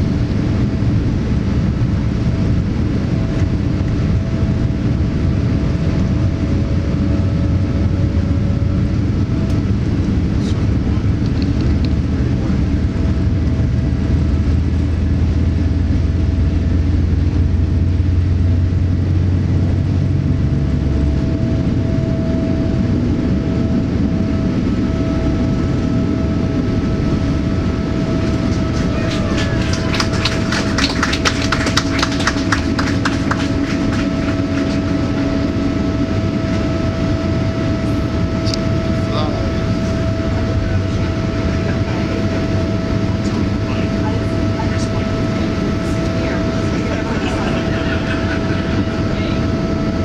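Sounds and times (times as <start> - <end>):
aircraft cabin rumble: 0.0 - 50.0
deep drone: 0.0 - 50.0.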